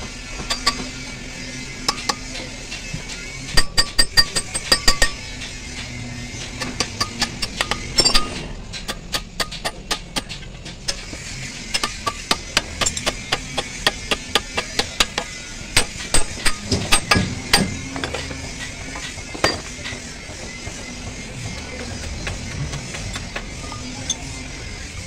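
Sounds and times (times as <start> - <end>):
hammer striking steel: 0.4 - 1.0, 1.8 - 2.4, 3.6 - 5.9, 6.5 - 24.5.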